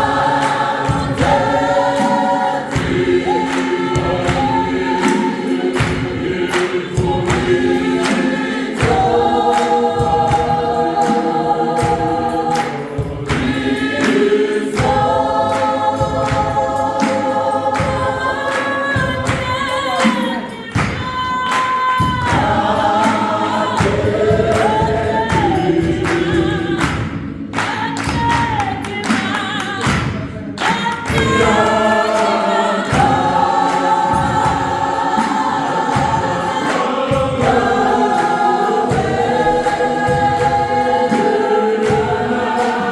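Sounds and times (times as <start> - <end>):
choir singing in harmony: 0.0 - 42.9
sharp percussive knocks: 0.0 - 42.9.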